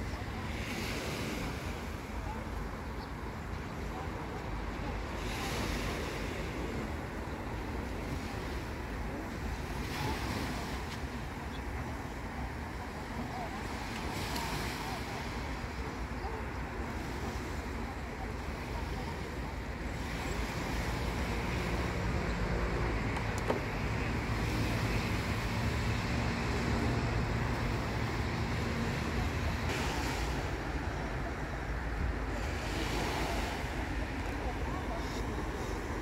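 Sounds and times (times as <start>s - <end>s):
sea surf on rocky shore: 0.0s - 36.0s.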